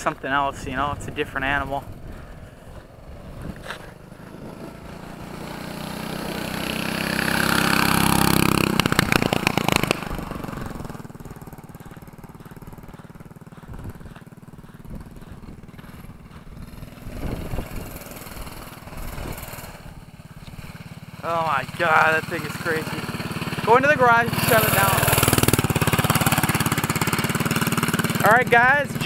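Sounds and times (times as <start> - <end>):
minibike engine passing: 0.0 - 29.0.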